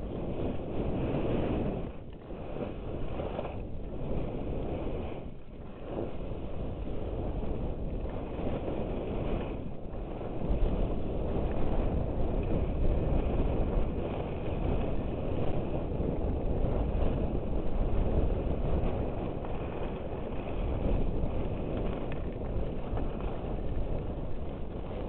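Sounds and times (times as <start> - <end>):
skis sliding over snow: 0.0 - 25.0
wind buffeting microphone: 0.0 - 25.0.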